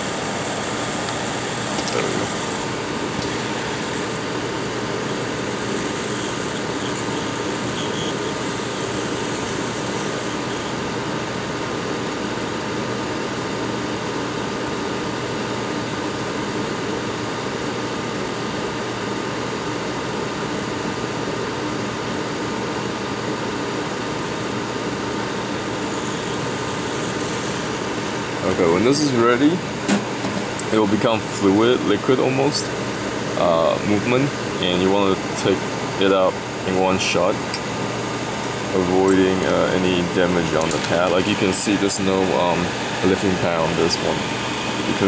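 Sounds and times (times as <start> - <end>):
hot air blower hissing: 0.0 - 45.0.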